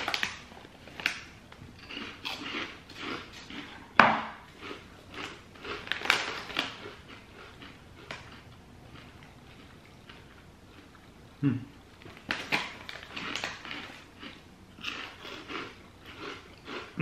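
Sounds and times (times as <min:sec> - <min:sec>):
crunchy snack being chewed: 0:00.0 - 0:11.1, 0:12.0 - 0:17.0.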